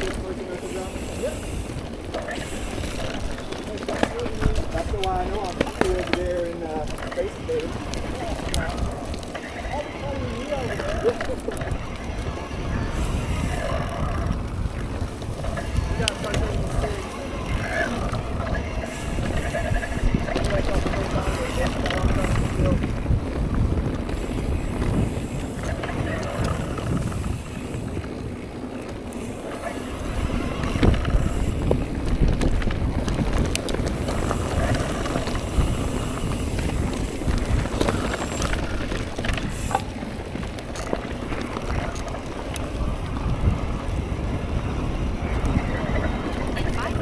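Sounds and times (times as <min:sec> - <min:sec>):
bike rattles and knocks: 0:00.0 - 0:47.0
tyres rolling over dirt and rock: 0:00.0 - 0:47.0
wind buffeting microphone: 0:00.0 - 0:47.0.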